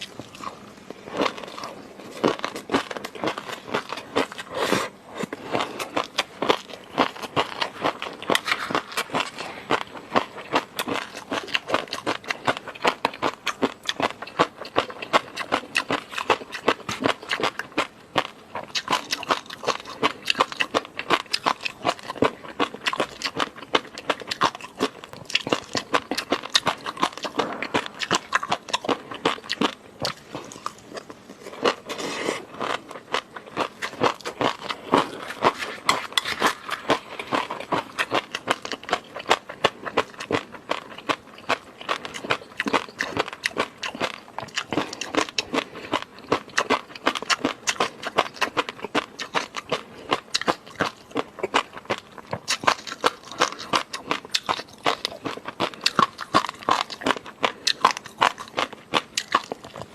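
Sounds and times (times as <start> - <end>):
wet chewing clicks and smacks: 5.8 - 31.8, 32.6 - 59.9.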